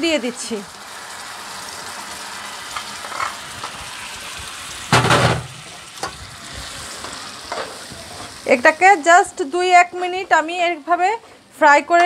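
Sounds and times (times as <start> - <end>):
spice paste sizzling in oil: 0.0 - 12.0.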